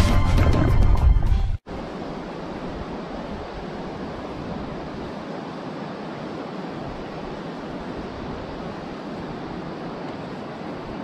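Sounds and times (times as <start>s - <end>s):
river water rushing over rapids: 1.7s - 11.0s.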